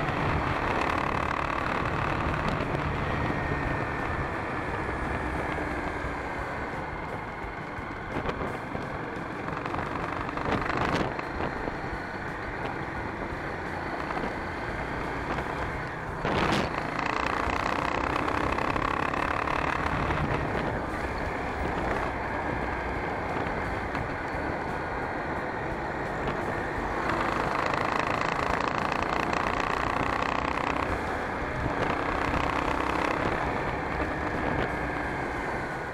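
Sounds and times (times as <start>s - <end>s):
motorcycle engine: 0.0s - 35.9s
wind and road noise: 0.0s - 35.9s.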